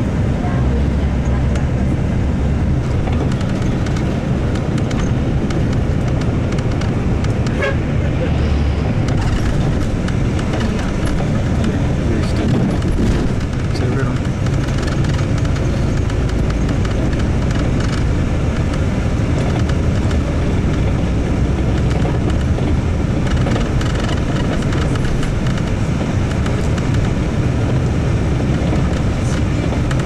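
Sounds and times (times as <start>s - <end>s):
bus engine and tyres rumbling: 0.0s - 30.0s
rattles on a rough road: 0.0s - 30.0s.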